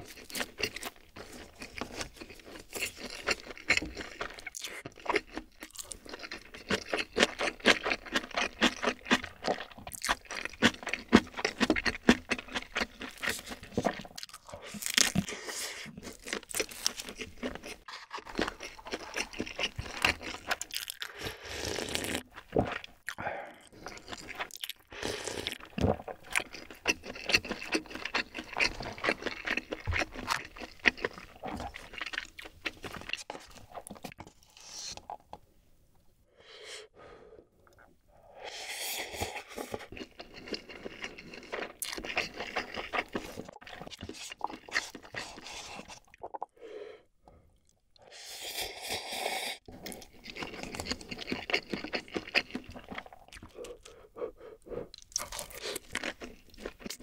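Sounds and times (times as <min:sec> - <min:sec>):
crunchy food chewing: 0:00.0 - 0:35.3, 0:39.0 - 0:46.5, 0:48.6 - 0:57.0.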